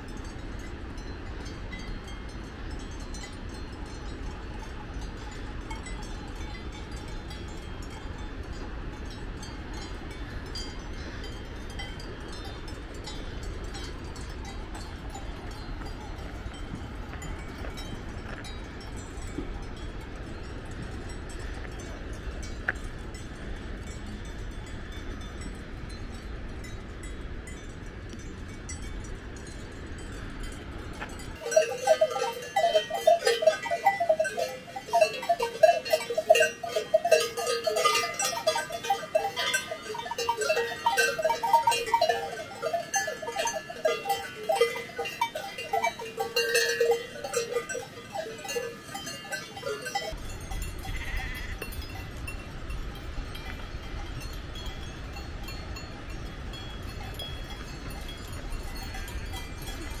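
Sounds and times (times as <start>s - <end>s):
cow bells clanking: 0.0s - 60.0s.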